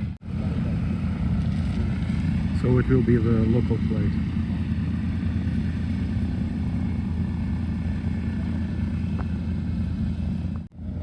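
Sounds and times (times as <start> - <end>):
propeller aircraft engine drone: 0.0 - 11.0.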